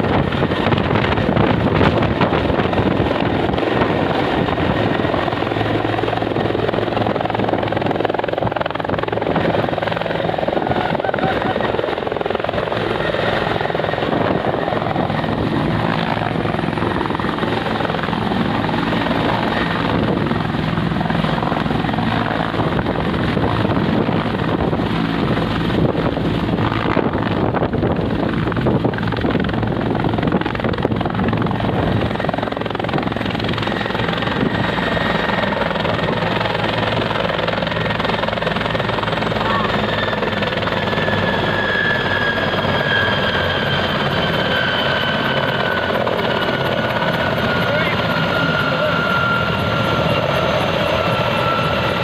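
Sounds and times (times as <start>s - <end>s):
helicopter turbine and rotor: 0.0s - 52.0s.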